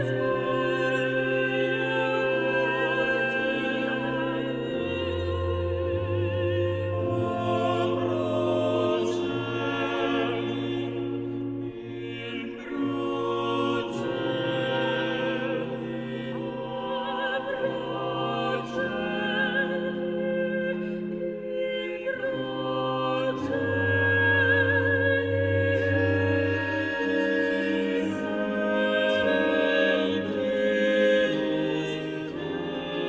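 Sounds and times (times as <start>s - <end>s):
opera singer with vibrato: 0.0s - 33.0s
orchestral accompaniment: 0.0s - 33.0s.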